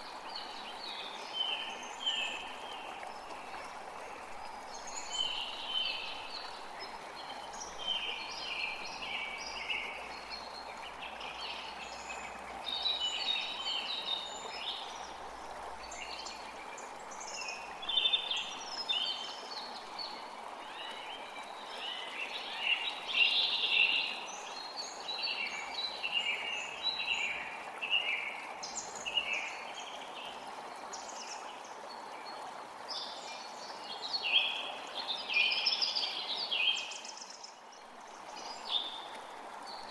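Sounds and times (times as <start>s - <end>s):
creek rushing: 0.0s - 39.9s.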